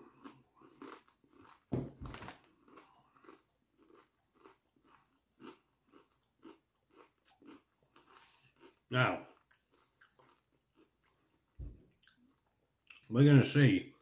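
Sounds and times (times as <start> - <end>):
person crunching potato chip: 0.0 - 11.4.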